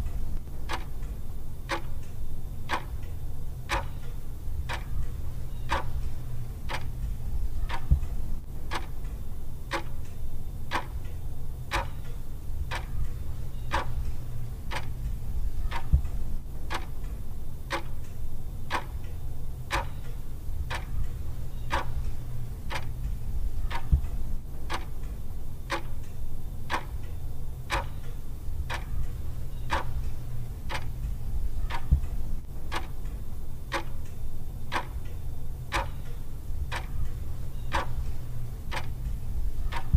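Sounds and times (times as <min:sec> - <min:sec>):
low steady hum: 0:00.0 - 0:39.9
clock ticking: 0:00.6 - 0:01.1, 0:01.7 - 0:03.1, 0:03.7 - 0:07.0, 0:07.6 - 0:08.1, 0:08.7 - 0:09.1, 0:09.7 - 0:10.1, 0:10.7 - 0:11.1, 0:11.7 - 0:18.1, 0:18.7 - 0:19.1, 0:19.7 - 0:26.1, 0:26.7 - 0:27.1, 0:27.7 - 0:39.9.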